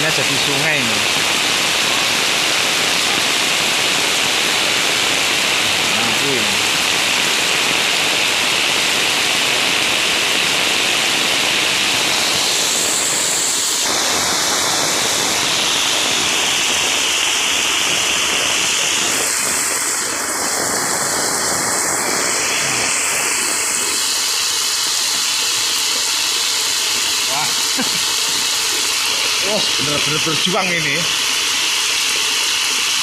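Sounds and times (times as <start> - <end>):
floodwater rushing: 0.0 - 33.0
heavy rain: 0.0 - 33.0.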